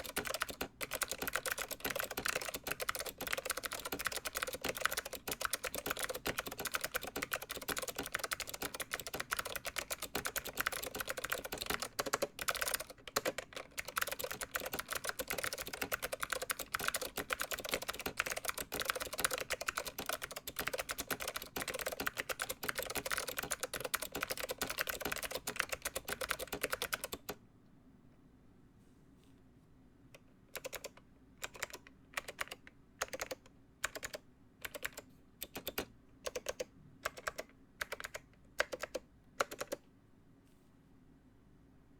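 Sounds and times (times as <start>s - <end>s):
clicky keyboard typing: 0.0s - 27.4s, 30.6s - 39.8s.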